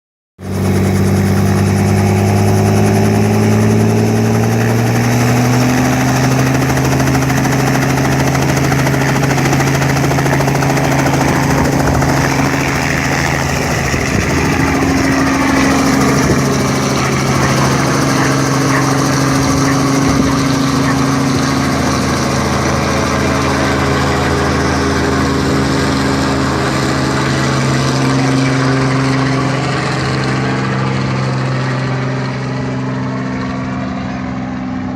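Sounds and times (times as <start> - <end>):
helicopter engine and rotor drone: 0.4 - 34.9.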